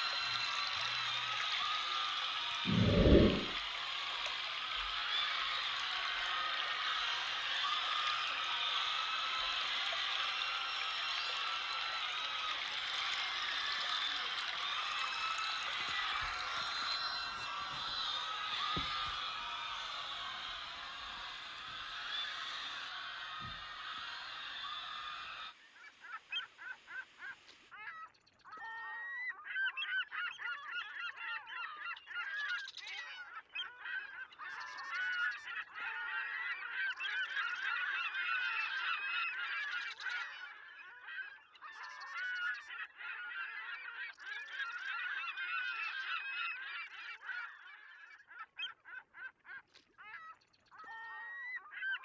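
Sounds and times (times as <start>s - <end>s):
flock of birds calling: 0.0s - 3.8s, 4.5s - 52.0s.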